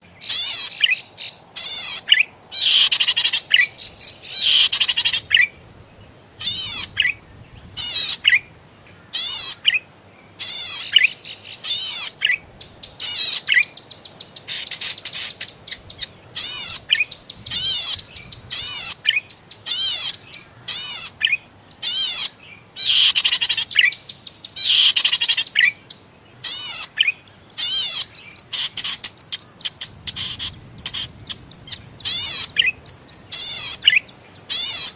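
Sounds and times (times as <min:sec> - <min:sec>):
bird singing fast high chirps: 0:00.2 - 0:05.5, 0:10.4 - 0:34.9.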